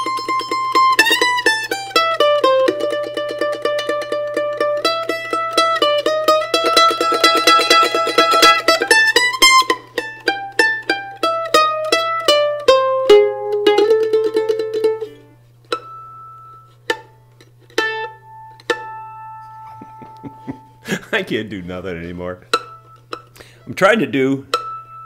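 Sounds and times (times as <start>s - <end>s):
mandolin playing a tune: 0.0s - 25.0s.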